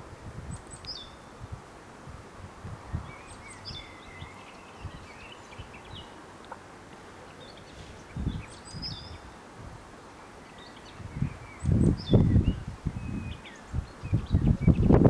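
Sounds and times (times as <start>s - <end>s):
wind buffeting microphone: 0.0s - 6.2s, 7.6s - 10.0s, 10.8s - 15.0s
songbirds chirping: 0.0s - 15.0s.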